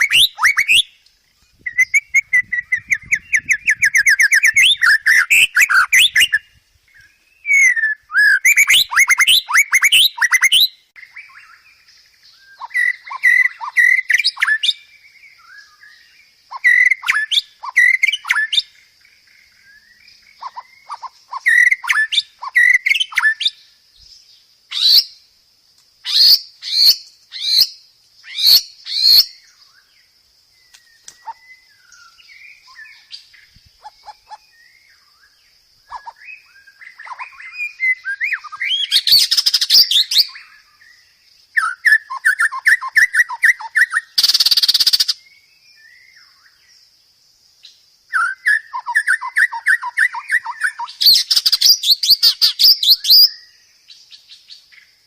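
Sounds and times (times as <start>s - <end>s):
shama bird singing: 0.0s - 25.3s, 26.0s - 46.9s, 47.6s - 55.0s
faint high-pitched hiss: 0.0s - 55.0s.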